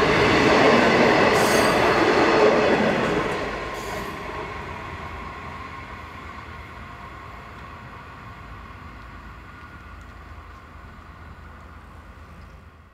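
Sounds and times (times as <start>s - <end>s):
train wheels rumbling on rail: 0.0s - 12.9s.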